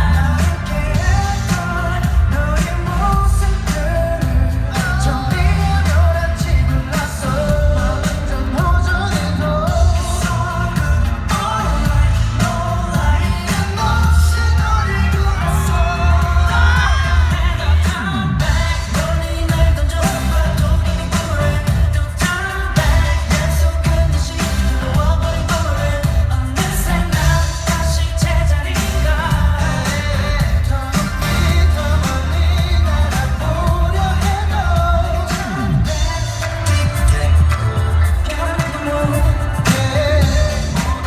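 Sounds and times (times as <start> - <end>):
male group vocals: 0.0 - 41.0
pop backing track with heavy bass: 0.0 - 41.0.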